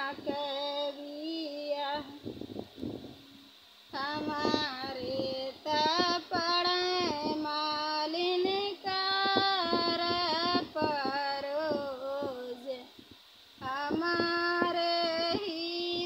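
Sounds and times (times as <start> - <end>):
woman singing unaccompanied: 0.0 - 2.4, 3.9 - 16.0.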